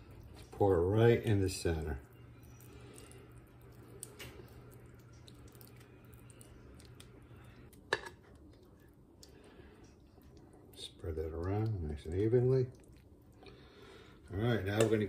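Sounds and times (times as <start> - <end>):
spatula squishing and scraping filling: 0.0 - 15.0.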